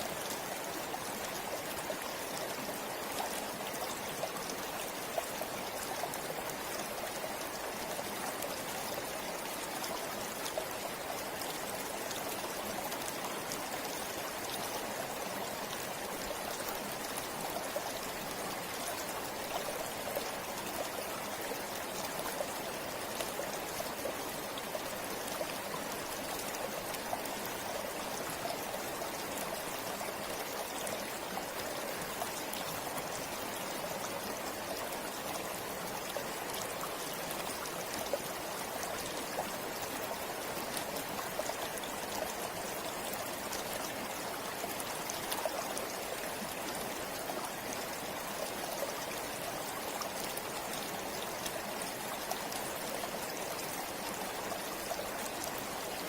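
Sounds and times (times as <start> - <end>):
river flowing over stones: 0.0 - 56.0
small splashes and trickles: 0.0 - 56.0.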